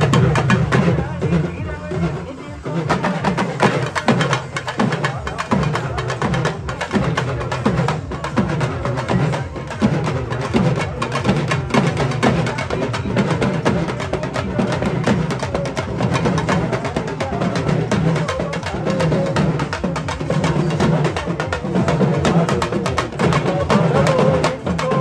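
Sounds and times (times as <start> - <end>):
drums beaten fast: 0.0 - 25.0.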